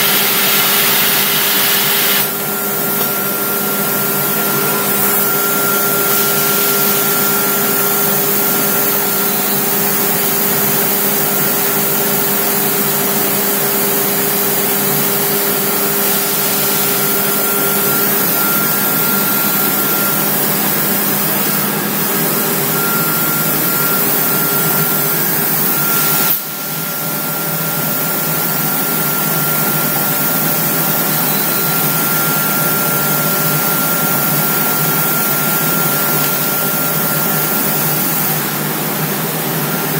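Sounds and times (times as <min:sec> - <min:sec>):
machine running with whine: 0:00.0 - 0:39.9.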